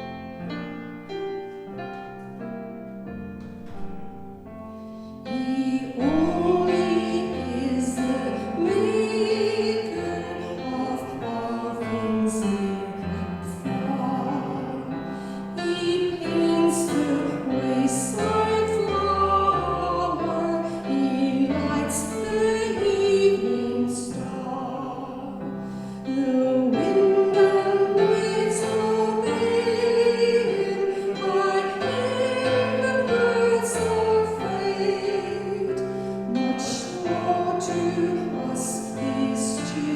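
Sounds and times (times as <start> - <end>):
keyboard accompaniment: 0.0 - 39.9
voices singing a hymn: 4.8 - 39.9.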